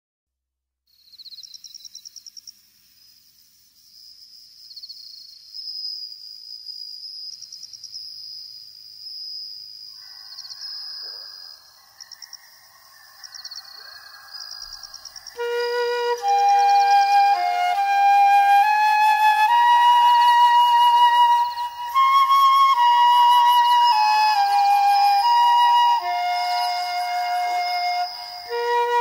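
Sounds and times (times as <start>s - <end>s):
insects chirping in trills: 0.9s - 29.0s.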